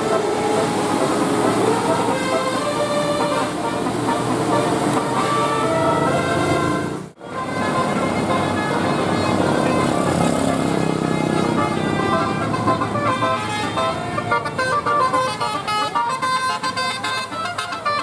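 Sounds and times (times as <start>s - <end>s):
multi-tone air horn melody: 0.0s - 18.0s
vehicle noise: 0.0s - 18.0s.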